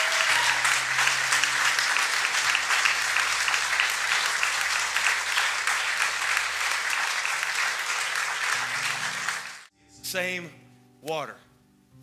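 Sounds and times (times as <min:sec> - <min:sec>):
crowd clapping: 0:00.0 - 0:09.7.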